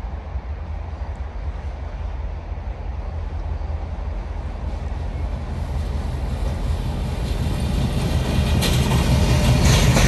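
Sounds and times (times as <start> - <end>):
diesel locomotive engine rumbling: 0.0 - 10.0
train wheels clicking on track: 0.0 - 10.0.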